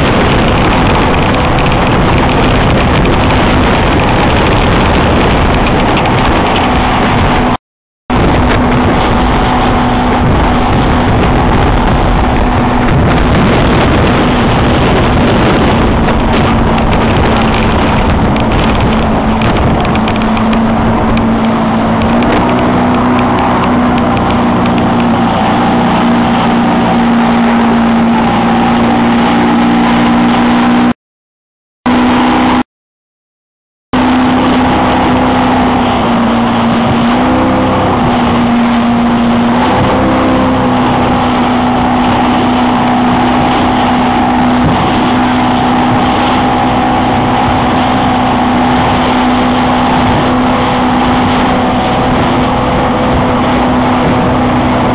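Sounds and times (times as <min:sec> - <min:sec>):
rushing water: 0:00.0 - 0:30.9, 0:31.9 - 0:32.6, 0:34.0 - 0:54.9
speedboat engine droning: 0:00.0 - 0:30.9, 0:31.9 - 0:32.6, 0:34.0 - 0:54.9.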